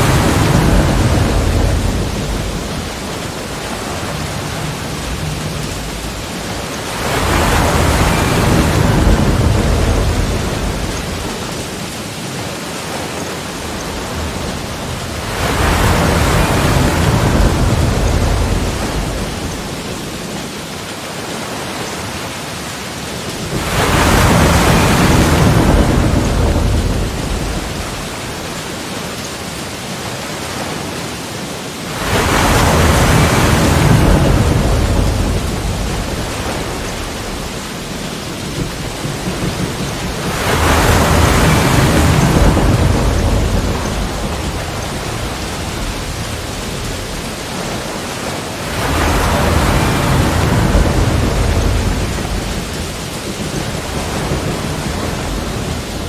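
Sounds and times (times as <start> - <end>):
rush of surf: 0.0 - 56.0
sea waves breaking on rocks: 0.0 - 56.0.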